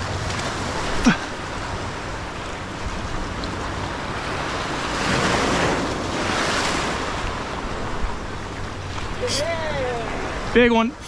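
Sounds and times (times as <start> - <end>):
surf breaking on rocky shore: 0.0 - 11.0.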